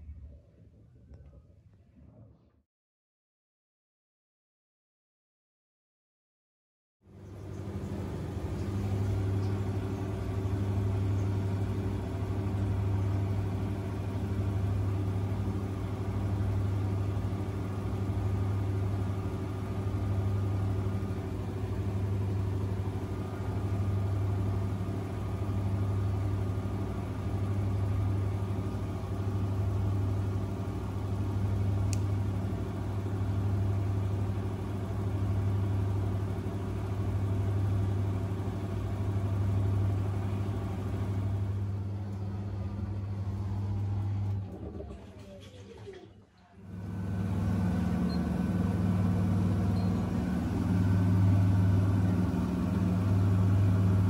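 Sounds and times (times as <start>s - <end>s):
washing machine humming: 7.1s - 54.0s.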